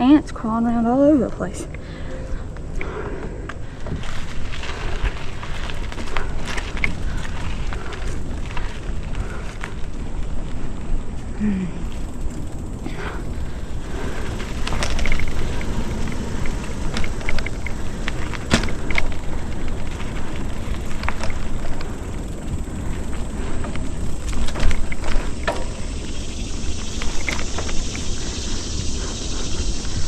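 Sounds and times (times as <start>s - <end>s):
wind and tyre rumble: 0.0s - 30.0s
bike clicks and rattles: 1.6s - 30.0s.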